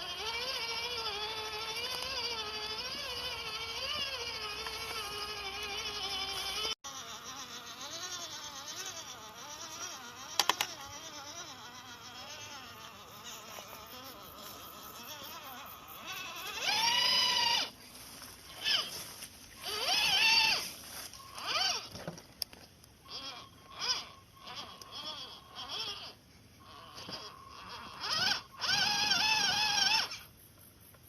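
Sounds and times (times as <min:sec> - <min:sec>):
small electric motor whining: 0:00.0 - 0:30.4.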